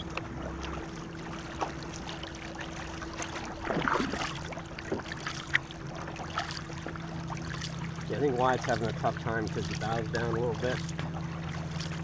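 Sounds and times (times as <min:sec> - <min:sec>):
paddles splashing in water: 0:00.0 - 0:12.0
steady low hum: 0:00.0 - 0:12.0.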